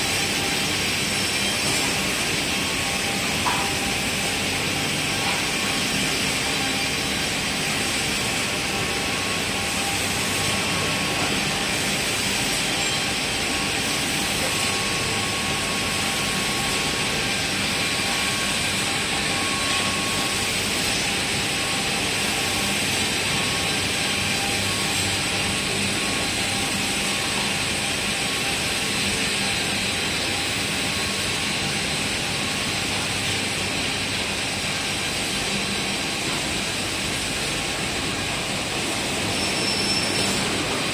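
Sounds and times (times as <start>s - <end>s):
factory machinery din: 0.0s - 40.9s.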